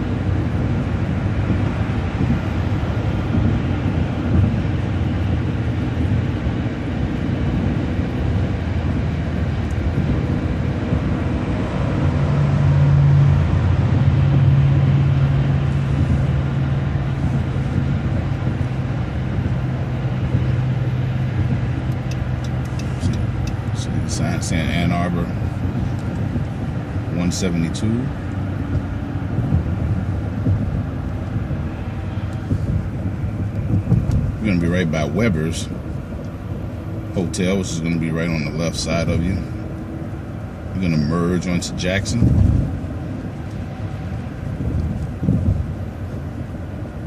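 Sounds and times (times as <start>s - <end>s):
bus engine and tyre noise: 0.0s - 47.0s
steady low drone: 0.0s - 47.0s.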